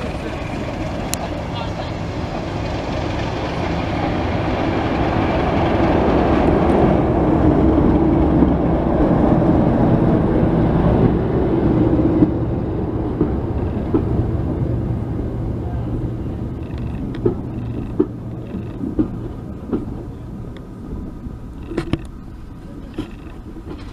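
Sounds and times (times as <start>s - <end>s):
train running on tracks: 0.0s - 23.9s.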